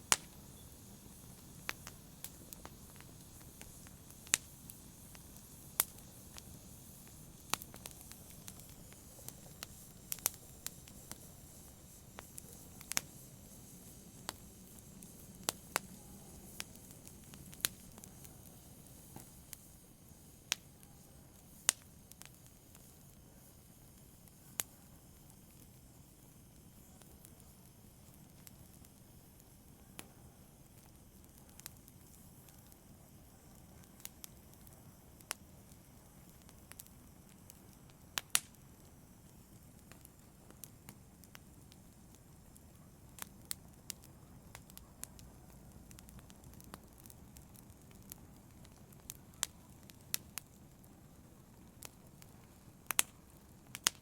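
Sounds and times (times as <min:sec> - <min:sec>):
fireplace fire crackling: 0:00.0 - 0:54.0
low rumble of flames: 0:00.0 - 0:54.0.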